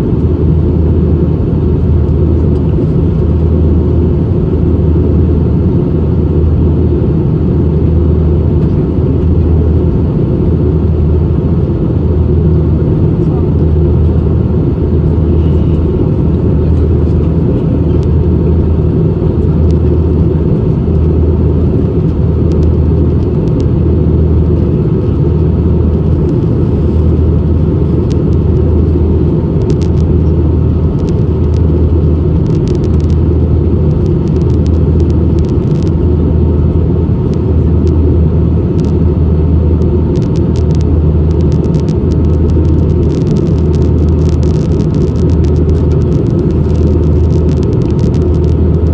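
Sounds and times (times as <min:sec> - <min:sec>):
aircraft cabin engine rumble: 0:00.0 - 0:48.9
pulsing low drone: 0:00.0 - 0:48.9.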